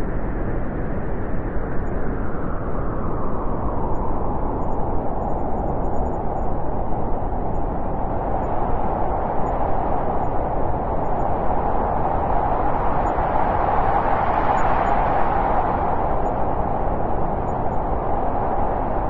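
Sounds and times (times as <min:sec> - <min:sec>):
steady wind blowing: 0:00.0 - 0:19.0.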